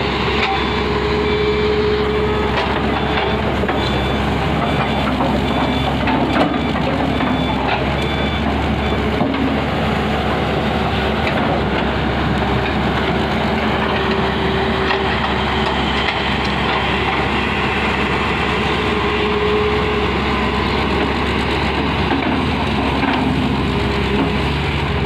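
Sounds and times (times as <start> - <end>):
excavator diesel engine under load: 0.0 - 25.0.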